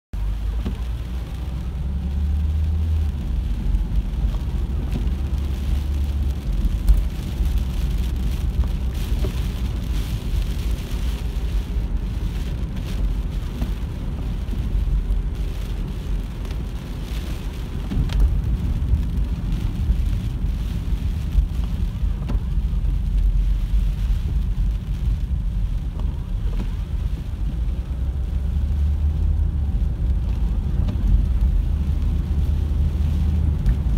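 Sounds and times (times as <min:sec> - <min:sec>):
car engine and tyres rumbling: 0:00.1 - 0:33.9
rain and road spray hissing: 0:00.2 - 0:33.9.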